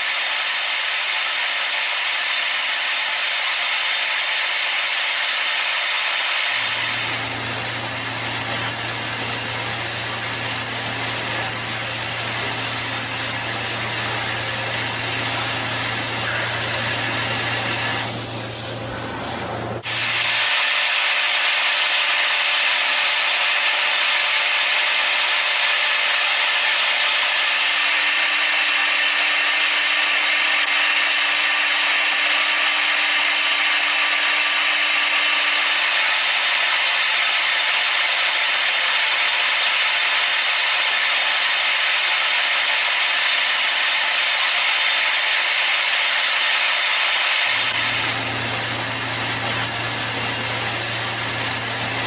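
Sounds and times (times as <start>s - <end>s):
machine tool cutting metal: 0.1s - 52.0s.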